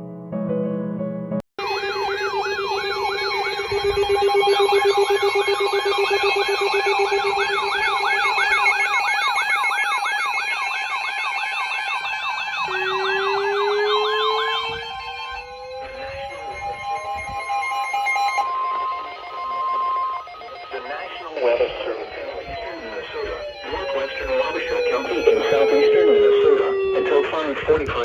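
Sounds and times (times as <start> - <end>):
steady tones: 1.6 - 27.9
electronic sirens yelping: 1.6 - 28.0
siren tone rising in pitch: 1.6 - 28.0.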